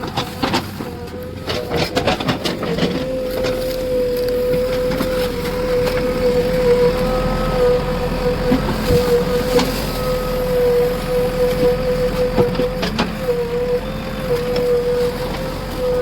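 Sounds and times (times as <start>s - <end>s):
diesel engine whining: 0.0s - 16.0s.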